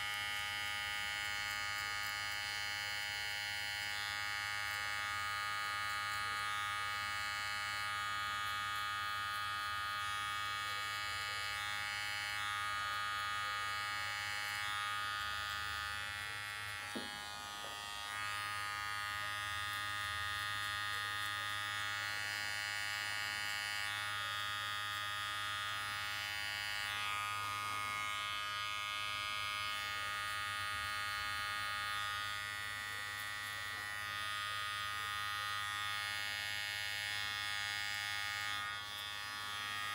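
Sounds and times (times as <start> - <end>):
hair trimmer buzzing: 0.0 - 39.9.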